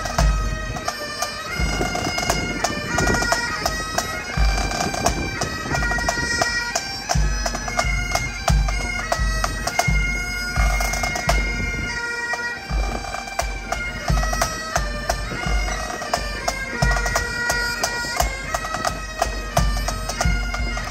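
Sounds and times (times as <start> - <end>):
bagpipes playing: 0.0 - 20.9.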